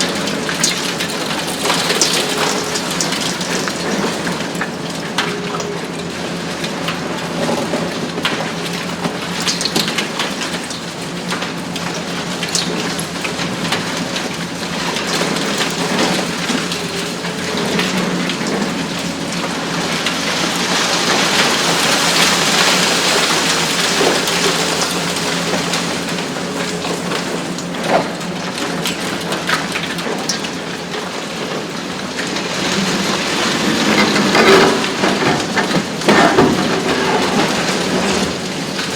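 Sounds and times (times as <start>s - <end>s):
debris crackling and rattling down: 0.0s - 38.9s
excavator engine hum: 0.0s - 38.9s.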